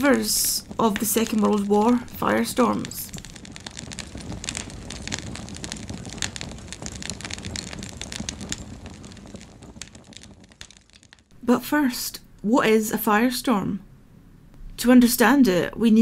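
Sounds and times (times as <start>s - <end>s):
wood fire crackling: 0.0s - 13.4s.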